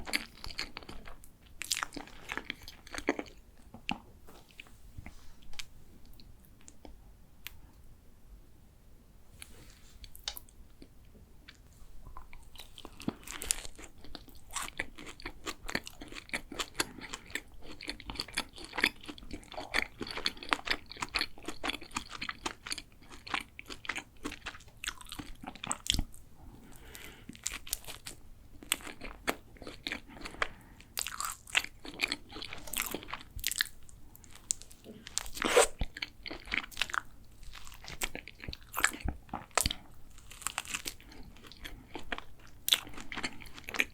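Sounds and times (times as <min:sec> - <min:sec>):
crunching and chewing pastry: 0:00.0 - 0:04.6, 0:12.2 - 0:43.9.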